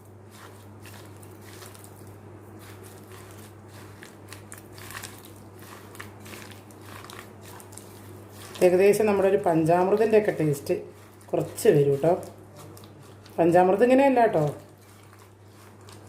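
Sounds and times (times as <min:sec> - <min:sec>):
hands mashing bananas squelching: 0:00.0 - 0:16.0.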